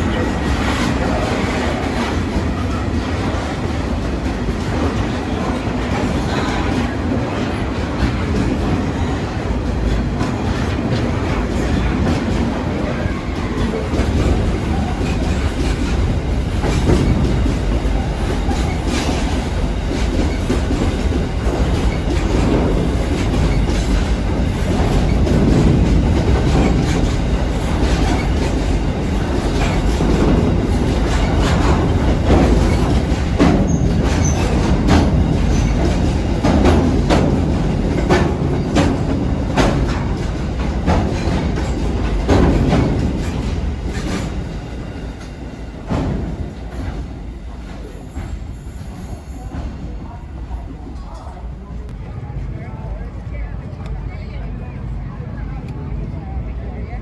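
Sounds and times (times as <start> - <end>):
train wheels clattering on rails: 0.0 - 52.4.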